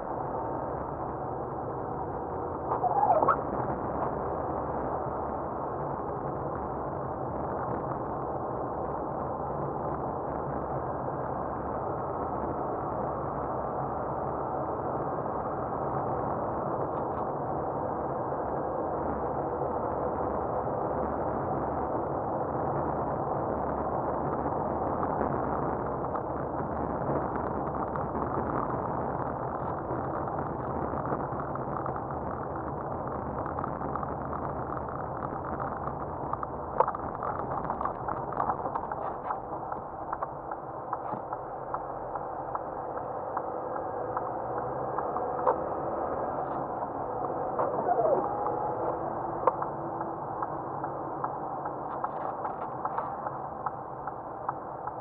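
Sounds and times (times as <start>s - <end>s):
engine and tyre noise: 0.0s - 55.0s.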